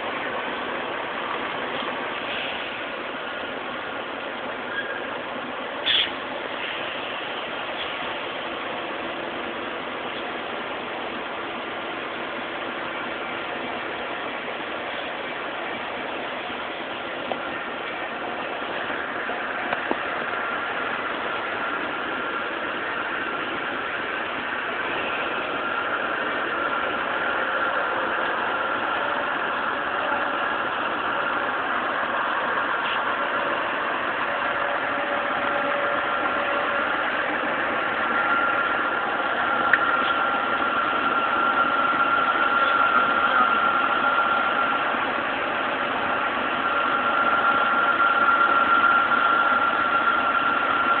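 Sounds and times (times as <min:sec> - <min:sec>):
steady high whine: 0:00.0 - 0:51.0
truck diesel engine running: 0:00.0 - 0:51.0.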